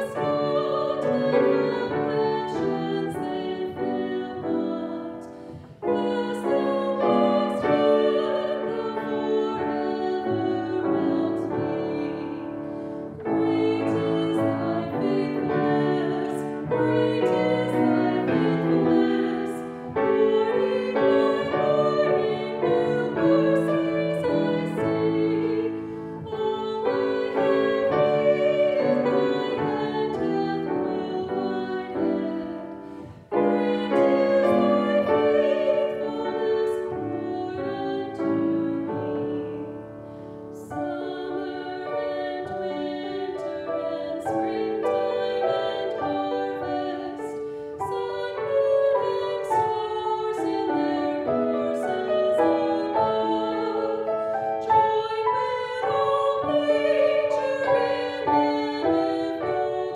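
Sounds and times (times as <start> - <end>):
grand piano accompaniment: 0.0 - 59.9
woman singing a hymn: 0.0 - 59.9.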